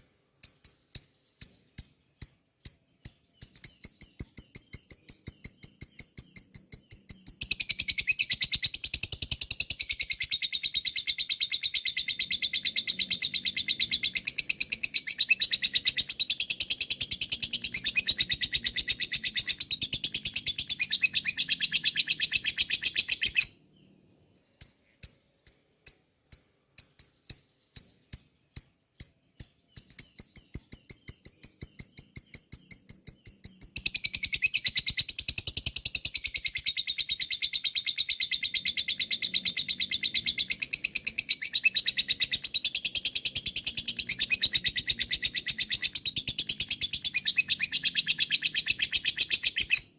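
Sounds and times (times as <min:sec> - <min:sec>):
sharp bird chirps: 0:00.0 - 0:49.9
bird chattering trill: 0:01.4 - 0:23.6, 0:26.3 - 0:49.9.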